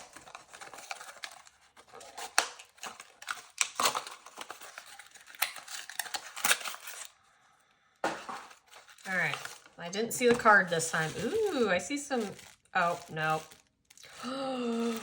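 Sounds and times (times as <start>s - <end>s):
packaging crinkling and tearing: 0.0s - 7.3s, 8.1s - 15.0s.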